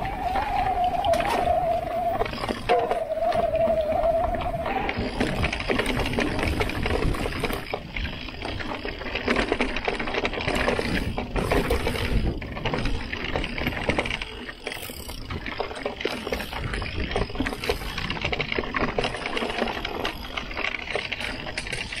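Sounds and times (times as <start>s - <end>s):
bike clattering over bumps: 0.0s - 22.0s
tyre noise on dirt: 0.0s - 22.0s.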